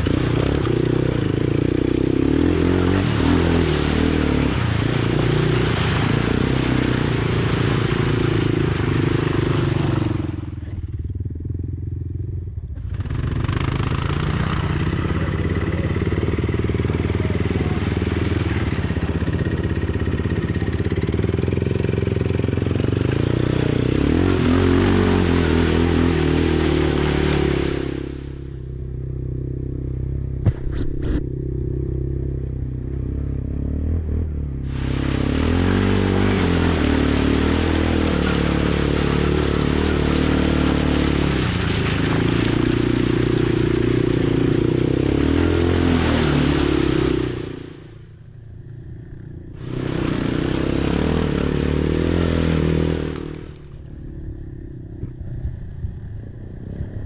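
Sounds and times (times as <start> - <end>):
quad engine revving: 0.0 - 11.7, 12.6 - 57.0.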